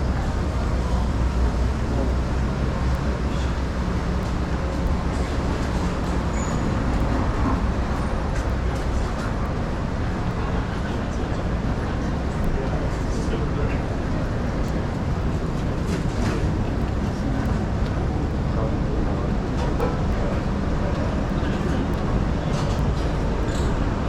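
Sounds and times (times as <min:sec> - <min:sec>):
faint voices: 0:00.0 - 0:24.0
traffic engine rumble: 0:00.0 - 0:24.0.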